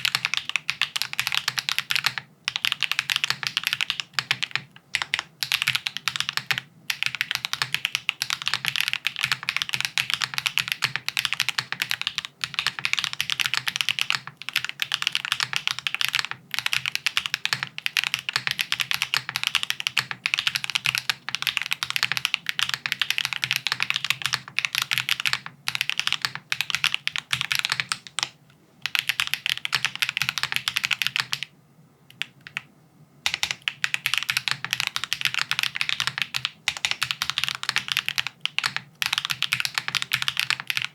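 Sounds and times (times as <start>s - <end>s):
mechanical keyboard typing: 0.0s - 31.5s, 32.1s - 32.6s, 33.3s - 40.9s.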